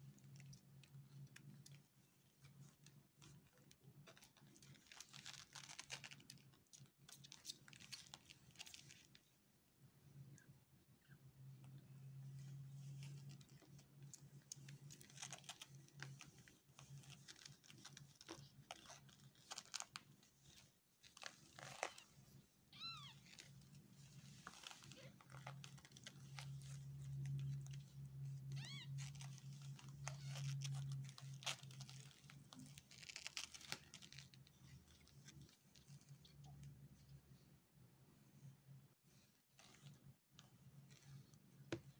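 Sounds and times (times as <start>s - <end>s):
rustling on crinkly pad: 0.0s - 10.3s, 11.4s - 37.5s, 38.2s - 41.9s.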